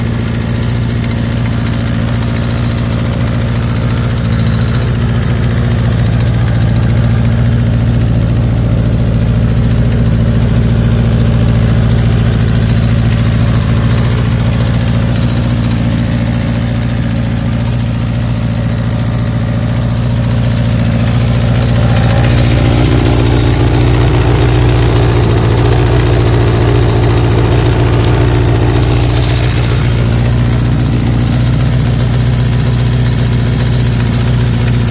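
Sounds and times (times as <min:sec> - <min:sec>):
motorcycle engine idling roughly: 0:00.0 - 0:34.9.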